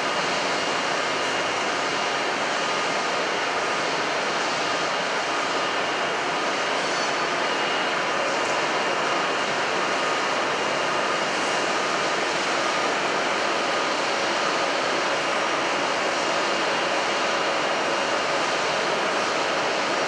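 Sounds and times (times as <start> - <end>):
faint high machine whine: 0.0 - 20.0.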